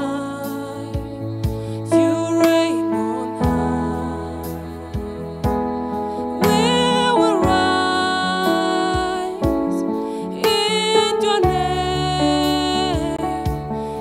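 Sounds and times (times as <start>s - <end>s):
electronic keyboard playing chords: 0.0s - 14.0s.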